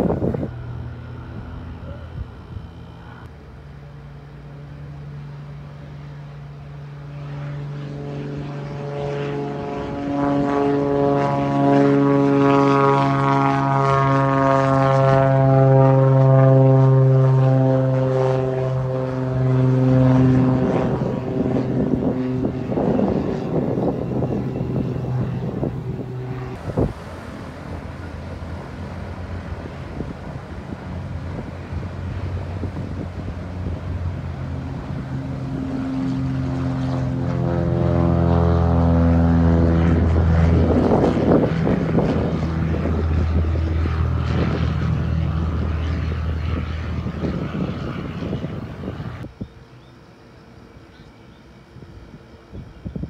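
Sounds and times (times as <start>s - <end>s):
faint low plane engine drone: 0.0s - 53.0s
propeller plane droning: 0.0s - 53.0s.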